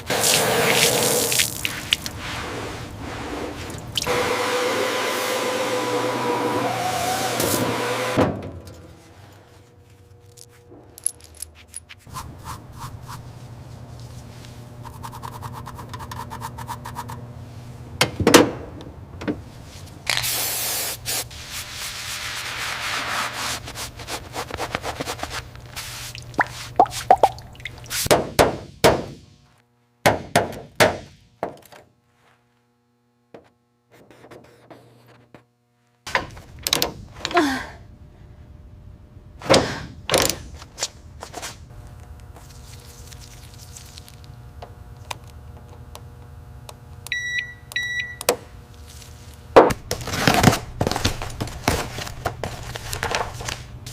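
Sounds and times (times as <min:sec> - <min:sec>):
steady low hum: 0:08.2 - 0:53.9.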